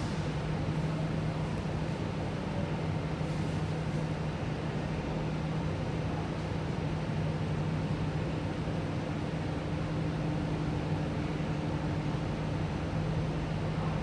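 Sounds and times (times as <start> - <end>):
metro train air-conditioning hum: 0.0 - 14.0.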